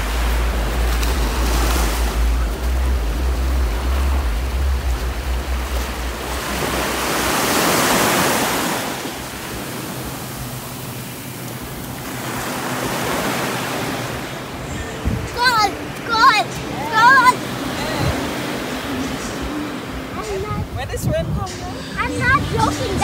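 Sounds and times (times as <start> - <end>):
wind rumble on microphone: 0.0 - 16.0, 16.6 - 23.0
waves washing onto beach: 0.0 - 23.0.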